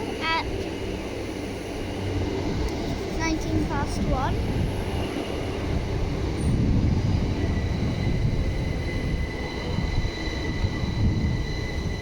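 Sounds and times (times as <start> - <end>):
high train whine: 0.0 - 12.0
train rumbling in: 0.0 - 12.0.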